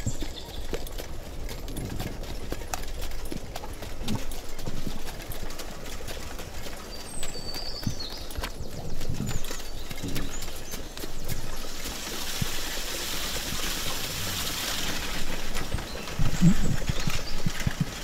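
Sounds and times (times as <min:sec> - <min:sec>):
hooves clip-clopping: 0:00.0 - 0:18.0.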